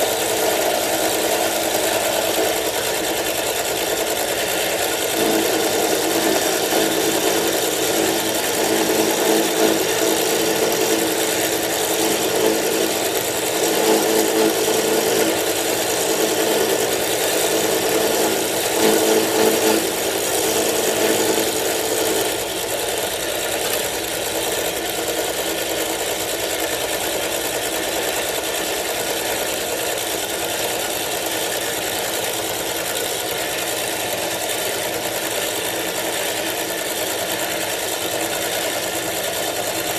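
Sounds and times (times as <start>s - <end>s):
milling machine motor hum: 0.0s - 39.9s
rough metal cutting noise: 0.0s - 39.9s.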